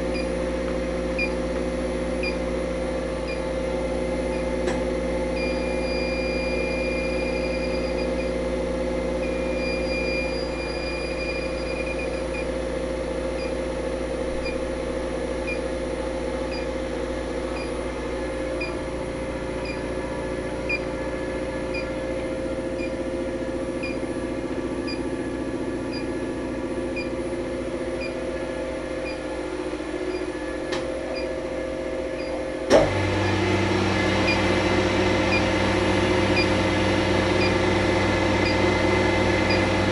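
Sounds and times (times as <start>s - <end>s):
deeper machine hum: 0.0s - 39.9s
refrigeration machinery humming: 0.0s - 39.9s.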